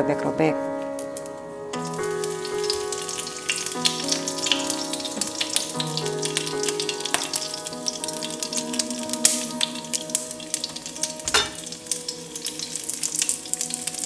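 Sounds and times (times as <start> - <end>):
background music: 0.0 - 14.0
oil sizzling and crackling: 1.0 - 14.0.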